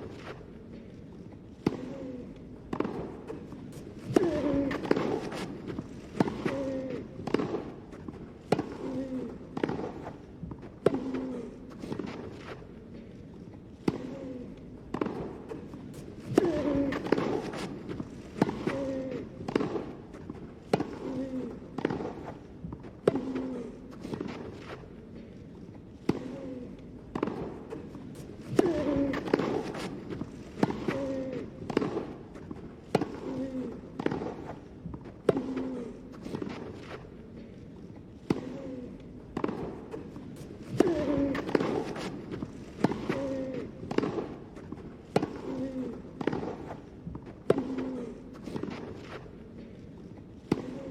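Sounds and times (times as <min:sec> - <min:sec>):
racket hitting tennis ball: 0:02.7 - 0:12.7, 0:14.9 - 0:24.8, 0:27.1 - 0:37.2, 0:38.2 - 0:49.4, 0:50.4 - 0:50.9.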